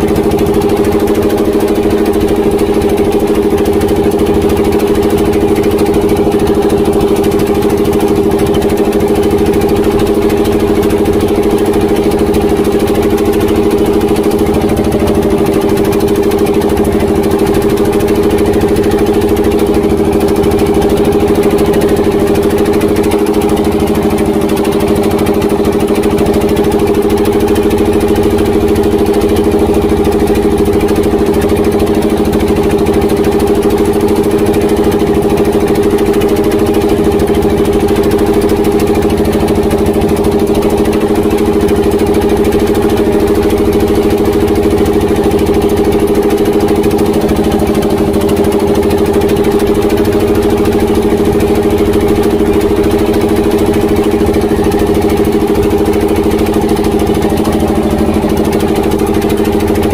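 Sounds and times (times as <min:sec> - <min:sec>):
diesel boat engine running: 0:00.0 - 0:59.9.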